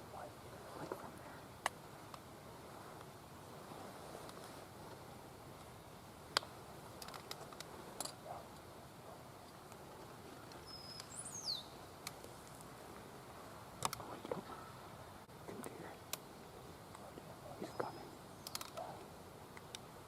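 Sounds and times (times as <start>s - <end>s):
faint clicks and rustles: 0.4s - 11.2s, 11.9s - 20.0s.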